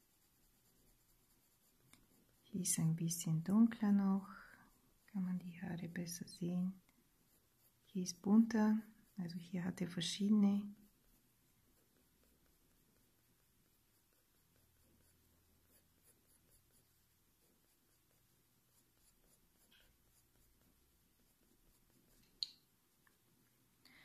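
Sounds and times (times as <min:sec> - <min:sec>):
pencil scratching on paper: 0:00.0 - 0:22.4.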